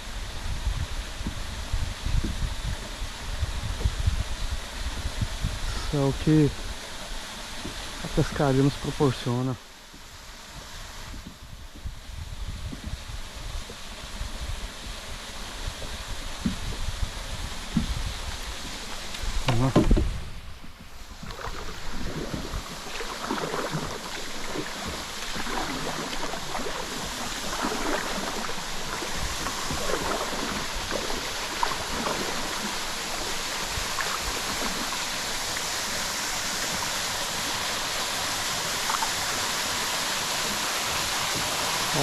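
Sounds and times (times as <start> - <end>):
water splashing around kayak: 0.0 - 42.0.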